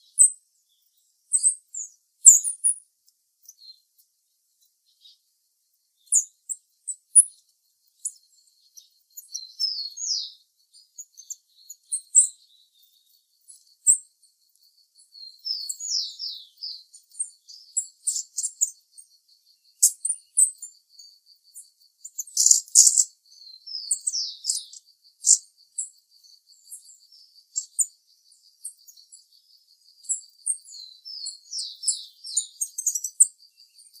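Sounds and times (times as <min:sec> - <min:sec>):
bird chirping: 0:00.0 - 0:34.0.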